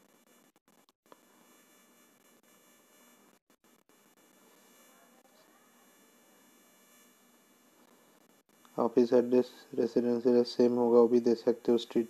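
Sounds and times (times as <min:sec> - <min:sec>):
faint steady hiss: 0:01.1 - 0:12.0.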